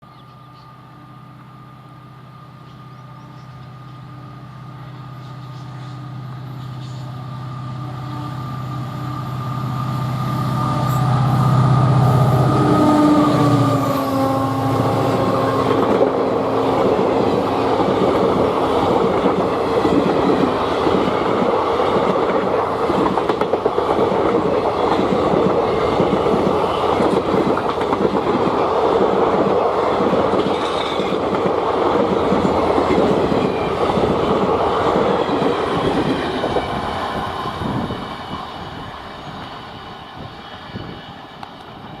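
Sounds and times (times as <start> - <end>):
diesel locomotive engine hum: 0.0 - 42.0.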